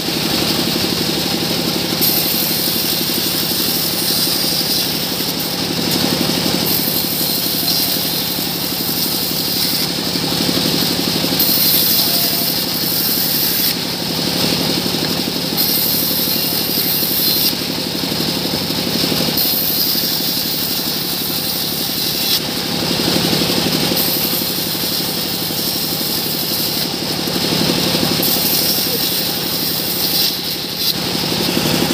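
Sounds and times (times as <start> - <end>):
band saw cutting log: 0.0 - 31.9.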